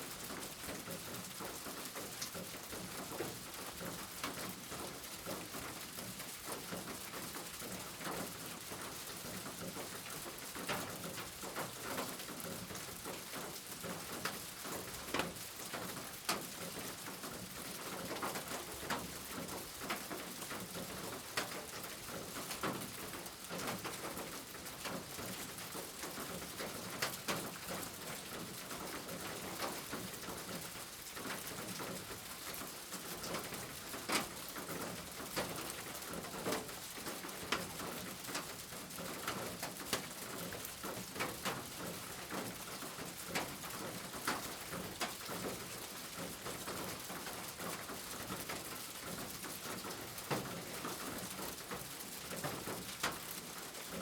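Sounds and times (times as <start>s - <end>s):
rain drops clicking on hard surface: 0.0s - 54.0s.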